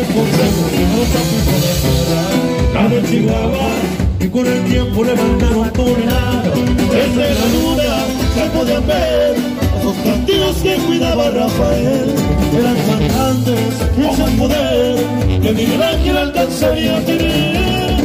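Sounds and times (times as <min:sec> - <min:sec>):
accordion melody: 0:00.0 - 0:18.0
bass: 0:00.0 - 0:18.0
steady beat: 0:00.0 - 0:18.0
strummed guitar: 0:00.0 - 0:18.0.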